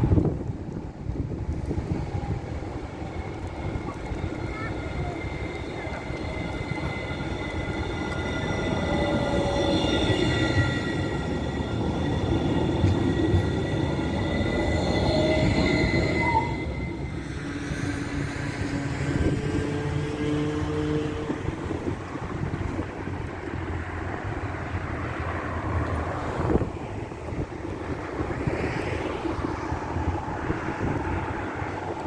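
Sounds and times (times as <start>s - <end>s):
tram rumble: 0.0s - 32.0s
tram wheels squealing: 0.0s - 32.0s.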